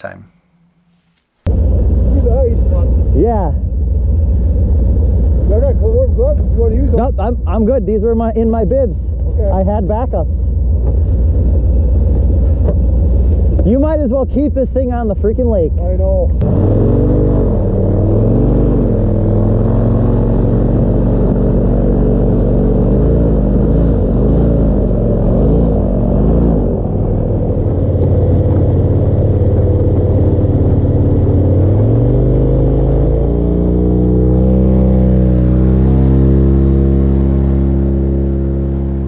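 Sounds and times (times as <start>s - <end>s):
airboat engine and propeller: 1.5s - 39.0s.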